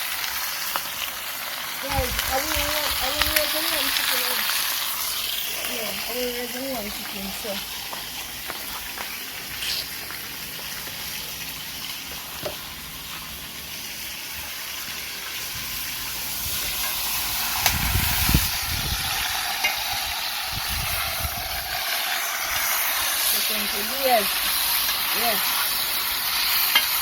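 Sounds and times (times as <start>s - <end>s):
chicken sizzling in hot oil: 0.0s - 27.0s.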